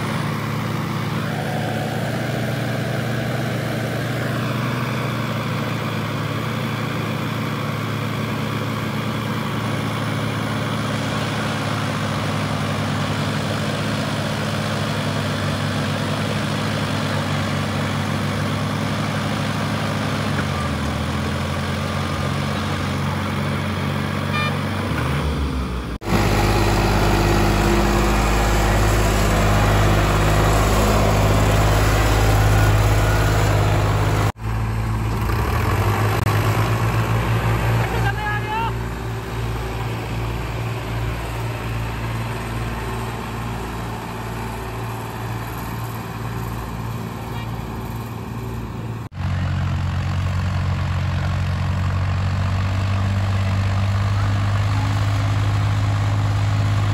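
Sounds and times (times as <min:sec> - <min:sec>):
tractor diesel engines running: 0:00.0 - 0:56.9.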